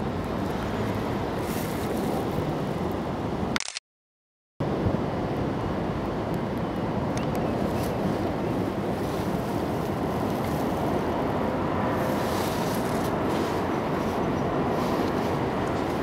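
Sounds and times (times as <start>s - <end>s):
wind buffeting microphone: 0.0s - 3.5s, 4.6s - 16.0s.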